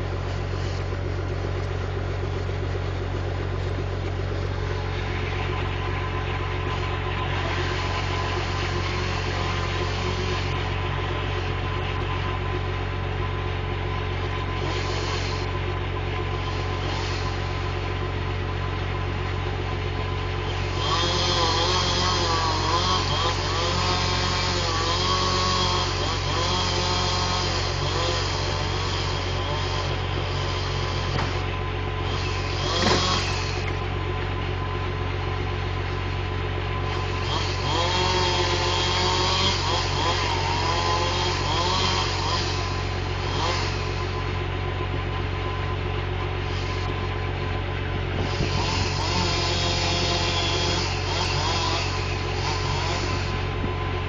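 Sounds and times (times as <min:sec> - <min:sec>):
diesel engine idling: 0:00.0 - 0:54.0
distant chainsaw running: 0:00.0 - 0:54.0.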